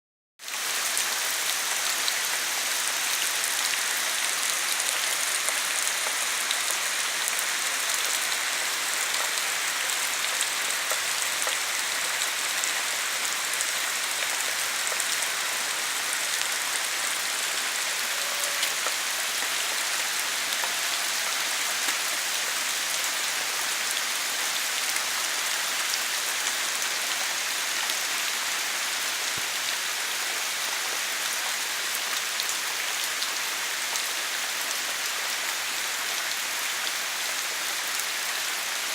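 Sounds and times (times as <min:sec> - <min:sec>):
heavy rain falling: 0:00.4 - 0:38.9.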